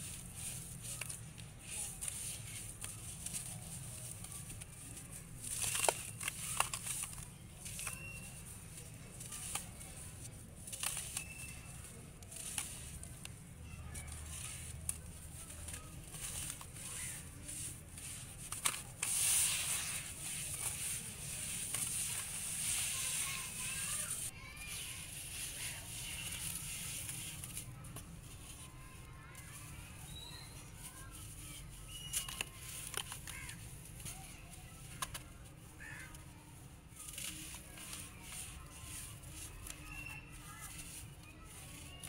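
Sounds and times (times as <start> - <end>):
gritty crunching of dry cement lumps: 0.0 - 28.7, 29.4 - 42.0.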